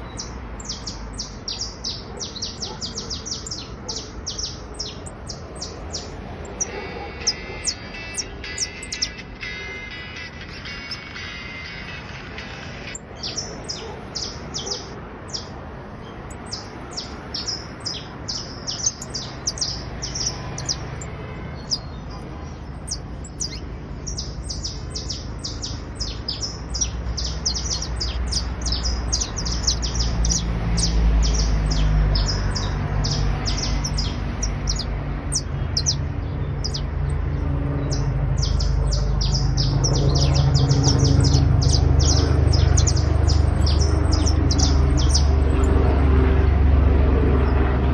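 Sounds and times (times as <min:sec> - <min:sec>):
canary singing trills: 0:00.0 - 0:47.9.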